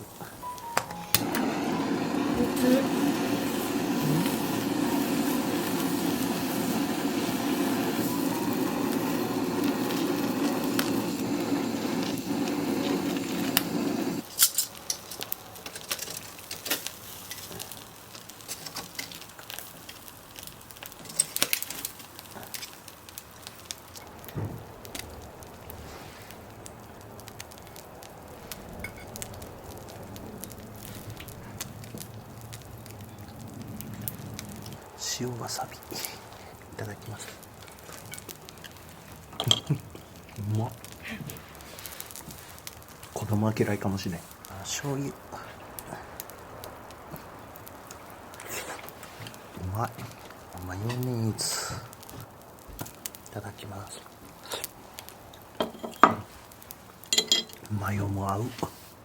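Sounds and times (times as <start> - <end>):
faint sizzling: 0.0 - 59.0
wood fire crackling: 0.0 - 59.0.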